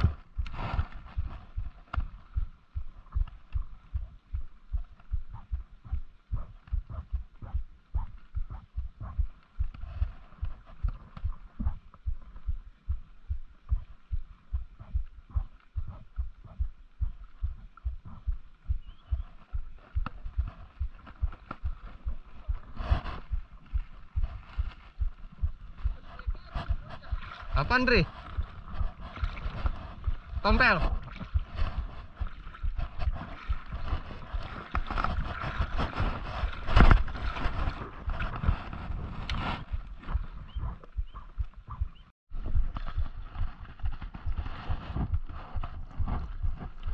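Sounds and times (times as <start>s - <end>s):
low thumps: 0.0s - 46.9s
seawater sloshing: 0.0s - 46.9s
wind buffeting microphone: 0.0s - 46.9s.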